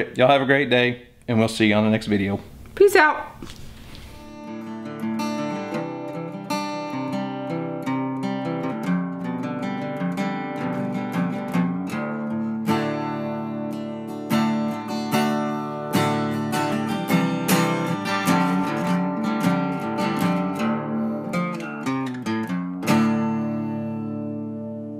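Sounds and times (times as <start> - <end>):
acoustic guitar strumming: 4.0 - 24.9.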